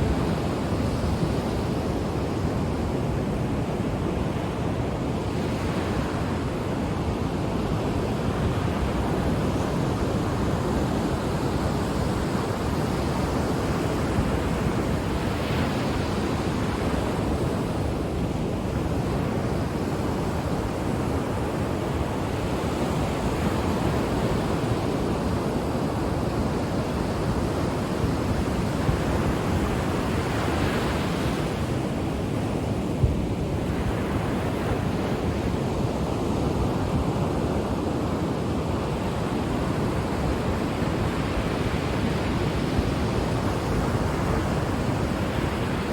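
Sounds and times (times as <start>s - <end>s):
ocean surf on shore: 0.0s - 45.9s.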